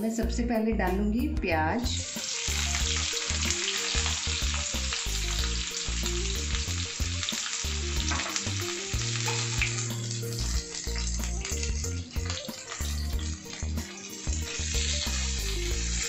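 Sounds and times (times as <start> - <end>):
onions sizzling in oil: 1.9 - 16.0.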